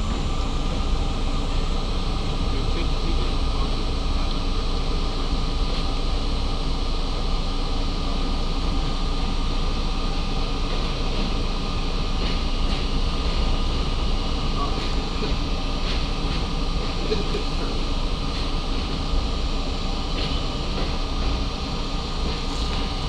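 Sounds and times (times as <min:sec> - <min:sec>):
subway train rumbling on track: 0:00.0 - 0:23.0.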